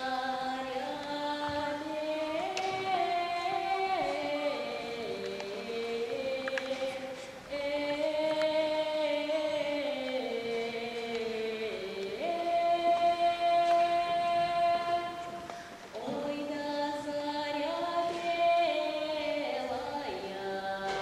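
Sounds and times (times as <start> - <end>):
girl singing folk melody: 0.0 - 21.0.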